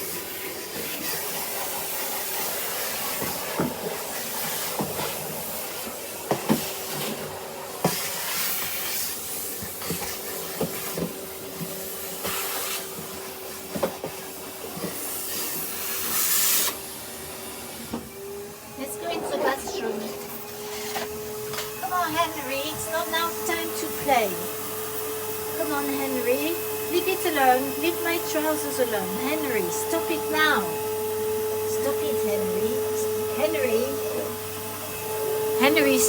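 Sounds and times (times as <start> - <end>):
vacuum cleaner running: 0.0 - 36.0.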